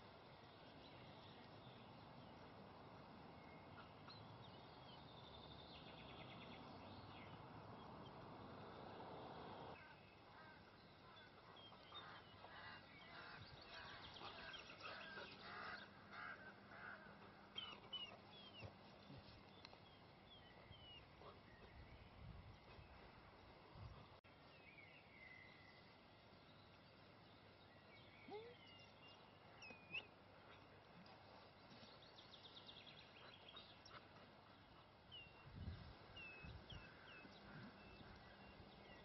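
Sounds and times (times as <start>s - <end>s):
soft steady hiss: 0.0s - 39.0s
small birds chirping: 0.4s - 39.0s.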